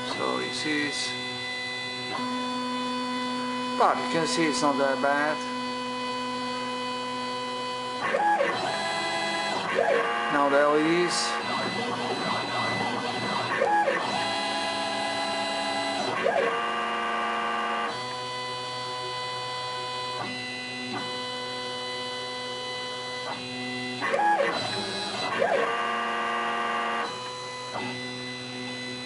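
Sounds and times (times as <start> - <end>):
stepper motors whining: 0.0 - 29.0.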